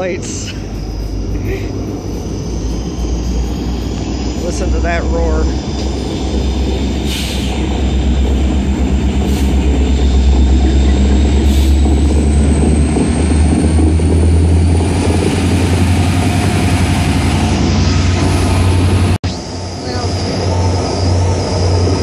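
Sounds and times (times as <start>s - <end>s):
diesel locomotive engine roar: 0.0s - 22.0s
high whine rising in pitch: 0.0s - 22.0s.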